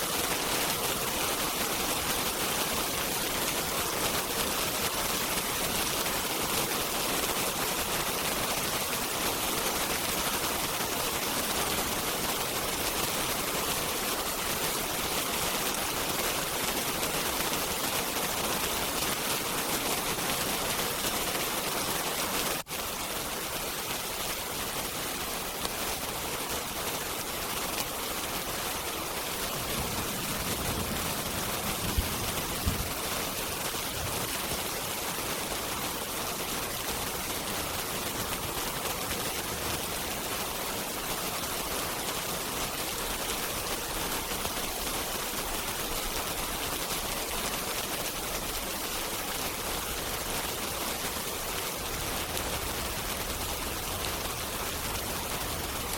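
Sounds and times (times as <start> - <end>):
steady rain hiss: 0.0 - 55.9.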